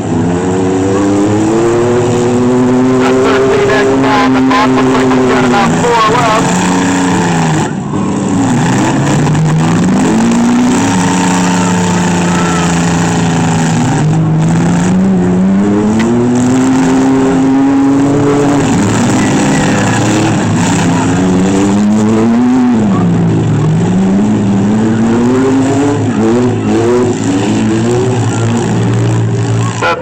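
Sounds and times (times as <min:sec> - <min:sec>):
car engines revving loudly: 0:00.0 - 0:30.0.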